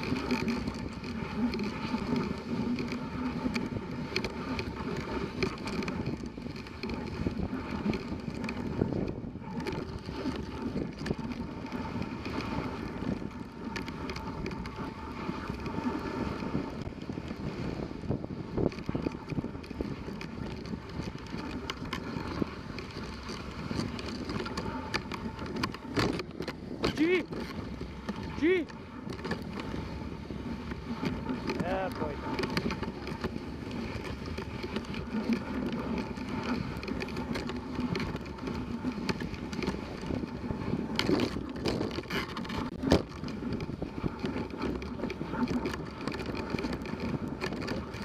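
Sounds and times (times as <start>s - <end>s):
sled knocks and rattles: 0.0s - 48.0s
sled runners scraping snow: 0.0s - 48.0s
wind on microphone: 0.0s - 48.0s.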